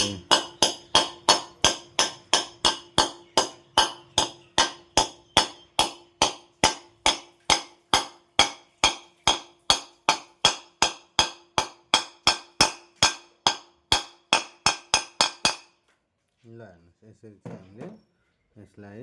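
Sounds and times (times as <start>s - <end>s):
hammer tapping metal: 0.0s - 15.7s.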